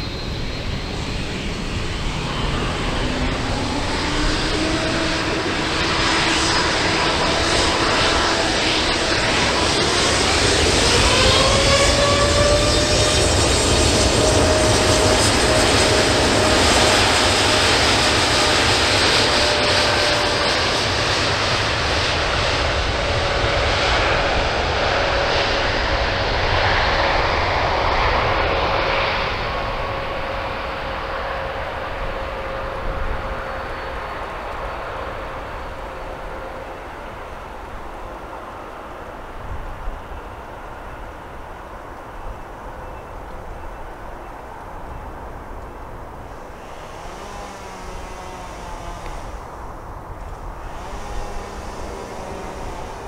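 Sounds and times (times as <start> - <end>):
jet engines roaring with whine: 0.0 - 53.0.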